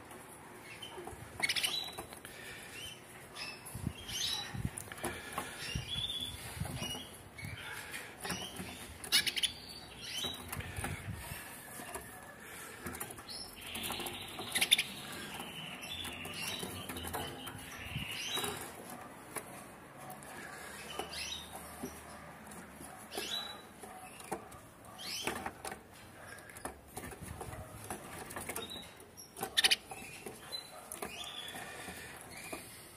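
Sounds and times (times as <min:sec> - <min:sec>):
canaries chirping: 0:00.0 - 0:32.9.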